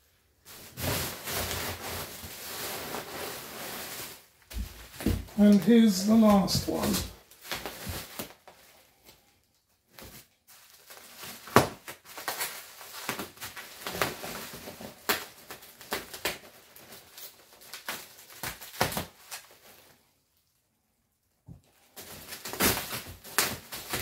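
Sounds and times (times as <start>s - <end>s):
bubble wrap crackling: 0.4s - 9.2s, 9.8s - 20.6s, 21.8s - 24.0s.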